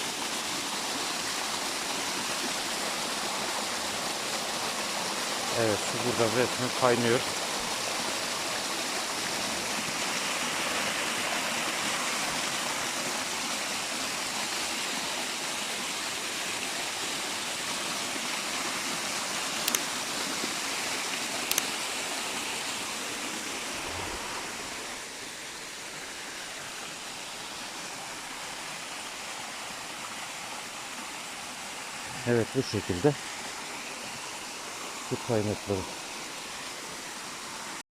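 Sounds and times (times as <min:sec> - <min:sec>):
running water: 0:00.0 - 0:37.8.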